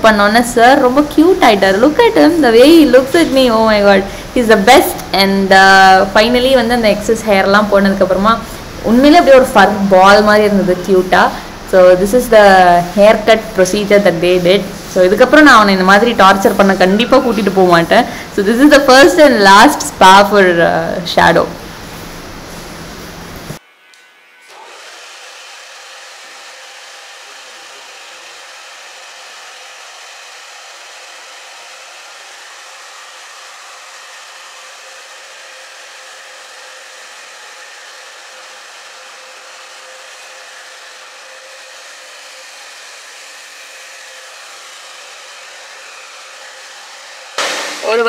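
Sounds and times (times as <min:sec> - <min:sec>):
blow dryer running: 0:00.0 - 0:48.0.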